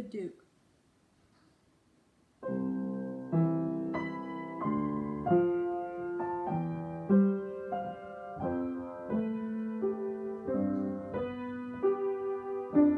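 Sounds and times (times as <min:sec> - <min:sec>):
solo piano chords: 0:02.4 - 0:12.9.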